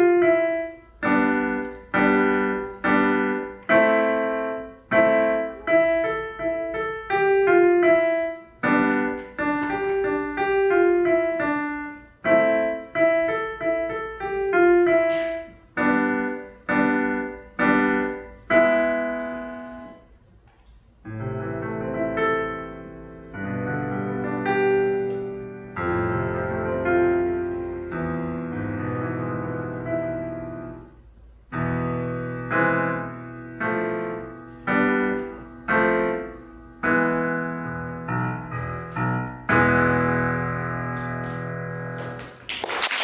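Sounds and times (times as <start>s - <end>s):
solo piano playing chords: 0.0s - 20.2s, 21.0s - 42.4s.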